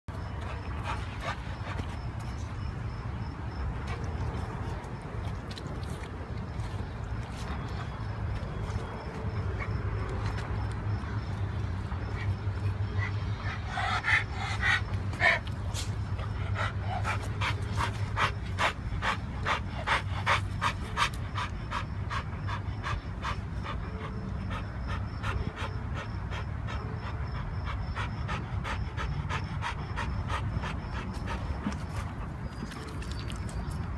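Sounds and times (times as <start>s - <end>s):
dog panting: 0.1s - 2.7s, 3.5s - 33.6s.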